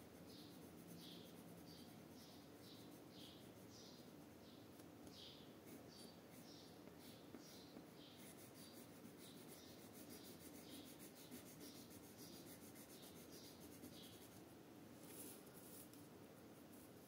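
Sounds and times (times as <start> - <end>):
pencil scratching on paper: 0.0 - 4.3, 5.6 - 16.0.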